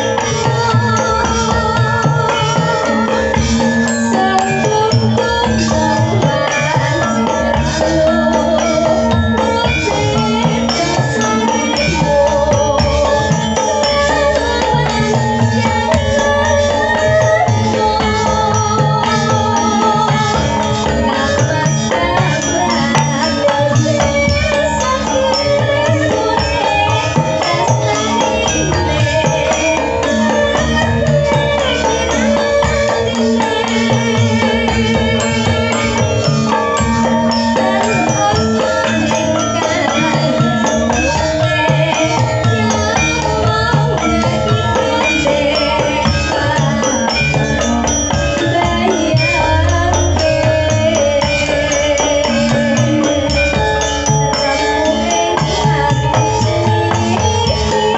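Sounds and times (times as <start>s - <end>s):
gamelan ensemble playing: 0.0s - 57.9s
woman singing through microphone: 0.0s - 57.9s.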